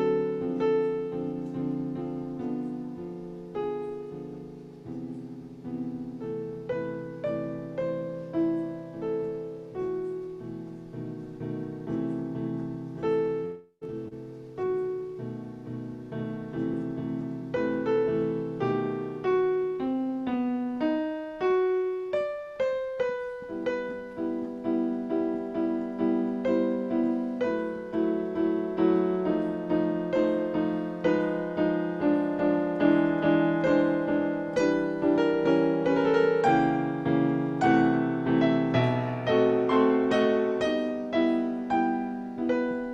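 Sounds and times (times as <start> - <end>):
solo piano music: 0.0 - 42.9.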